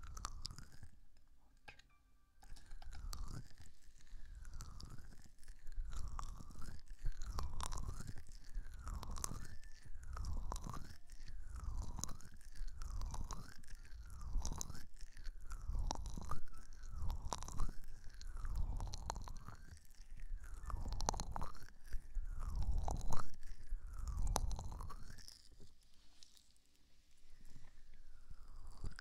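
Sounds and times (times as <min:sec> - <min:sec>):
fingers rubbing with crackly clicks: 0:00.0 - 0:01.2, 0:02.4 - 0:26.3, 0:28.3 - 0:29.0.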